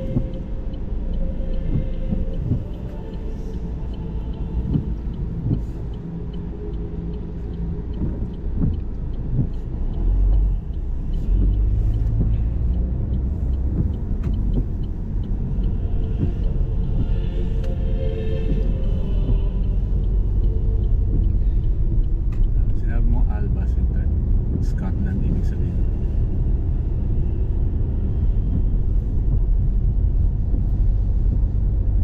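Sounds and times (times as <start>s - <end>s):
car engine and road rumble: 0.0s - 32.0s
faint regular ticking: 0.0s - 32.0s.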